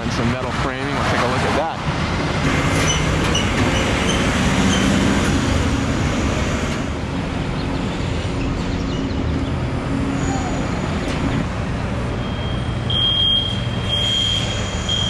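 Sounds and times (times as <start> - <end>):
large vehicle engine running: 0.0 - 15.0
passing traffic rumble: 0.0 - 15.0.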